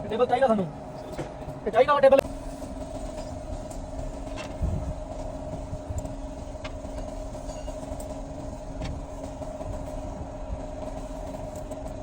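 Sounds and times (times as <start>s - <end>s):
mechanical hum with low rumble: 0.0s - 12.0s.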